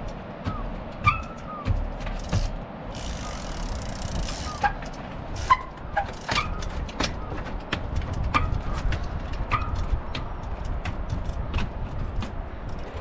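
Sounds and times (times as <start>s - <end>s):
bike tyres knocking on wooden steps: 0.0s - 13.0s.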